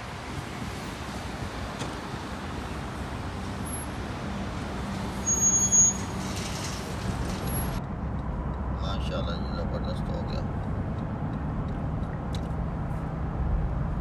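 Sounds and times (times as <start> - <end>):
busy road traffic: 0.0 - 14.0.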